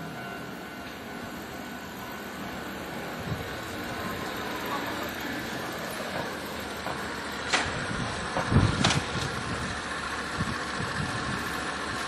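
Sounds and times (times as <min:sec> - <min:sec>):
hum of passing vehicles: 0:01.4 - 0:12.0.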